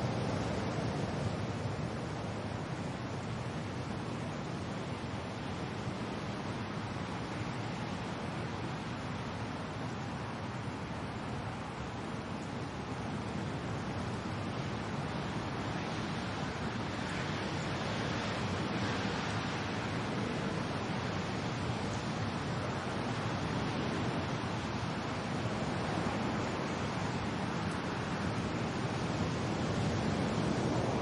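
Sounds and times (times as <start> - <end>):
rain: 0.0 - 31.0
wind: 0.0 - 31.0.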